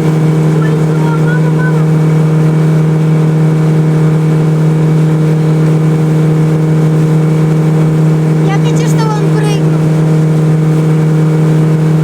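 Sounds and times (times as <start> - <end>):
hull hissing through water: 0.0 - 12.0
motorboat engine running: 0.0 - 12.0.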